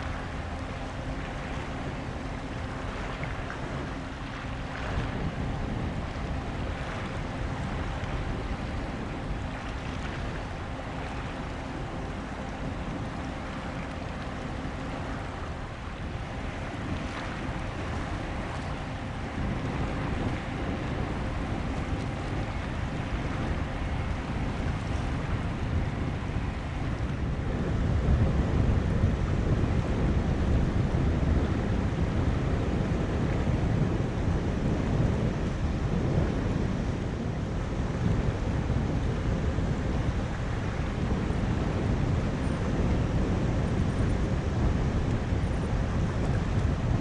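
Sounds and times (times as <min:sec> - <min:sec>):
choppy sea water: 0:00.0 - 0:47.0
faint steady hum: 0:00.0 - 0:47.0
wind buffeting microphone: 0:00.0 - 0:47.0.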